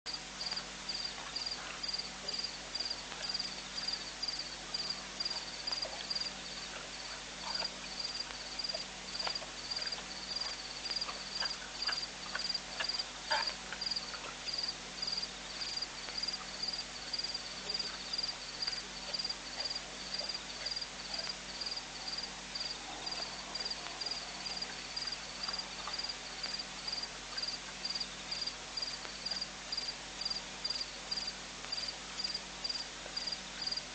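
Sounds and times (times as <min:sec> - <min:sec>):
insect chirping: 0:00.4 - 0:33.8.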